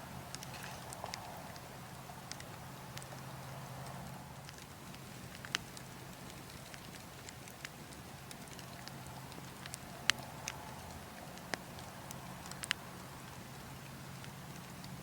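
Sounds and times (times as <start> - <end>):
burning logs crackling: 0.0 - 15.0.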